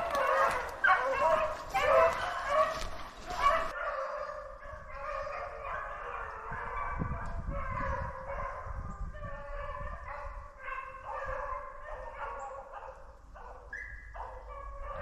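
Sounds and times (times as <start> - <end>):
dogs baying: 0.0 - 15.0.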